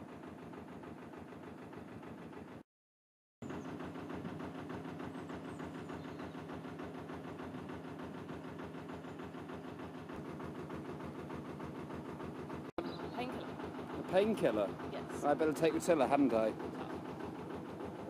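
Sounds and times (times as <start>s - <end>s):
boat engine chugging: 0.0s - 2.6s, 3.4s - 18.0s.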